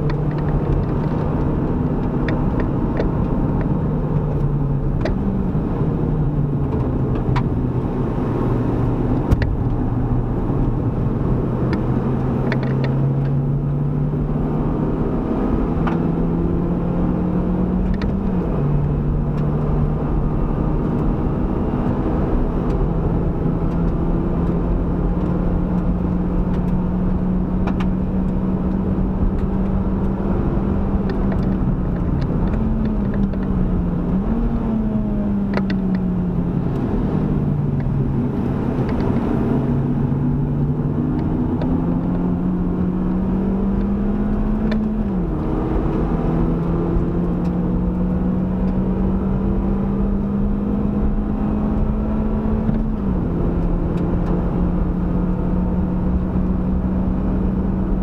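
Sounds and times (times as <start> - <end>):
car engine running hard: 0.0 - 58.0
wind and road noise: 0.0 - 58.0.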